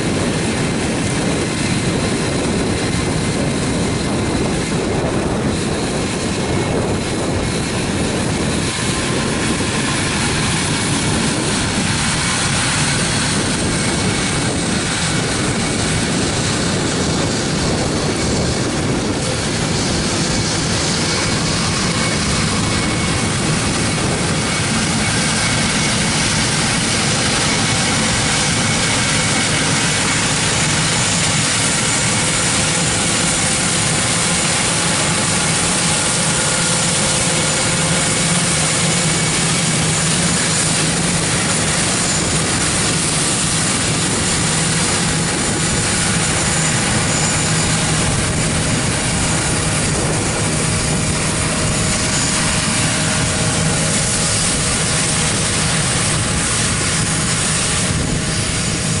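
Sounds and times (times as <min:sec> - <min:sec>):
farm machinery diesel engines running: 0:00.0 - 0:59.0.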